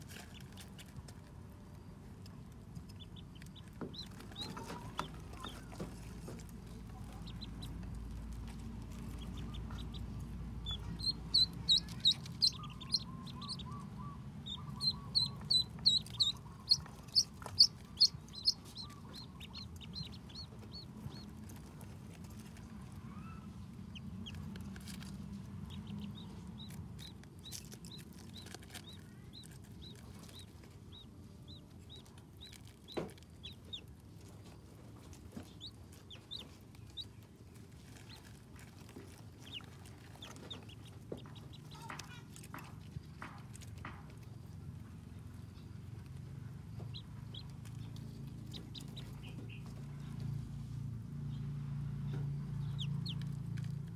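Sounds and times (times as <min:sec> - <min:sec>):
ducklings peeping: 0:00.0 - 0:01.8, 0:02.5 - 0:53.9.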